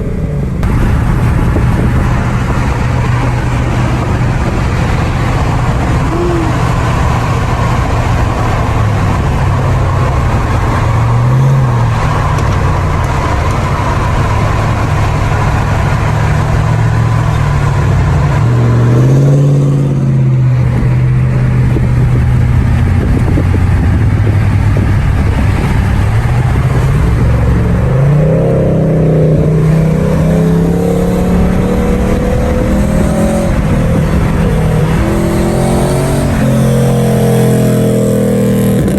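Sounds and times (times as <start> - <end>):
car engine revving: 0.0 - 38.9
road and wind noise: 0.0 - 38.9.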